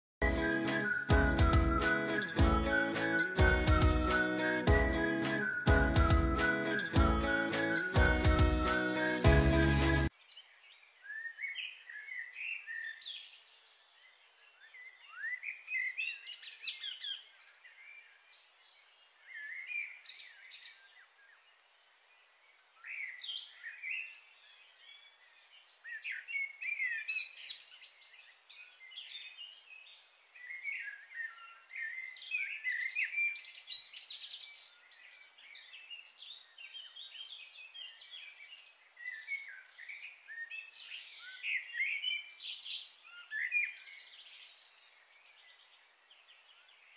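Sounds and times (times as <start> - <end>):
songbirds singing: 0.2 - 46.9.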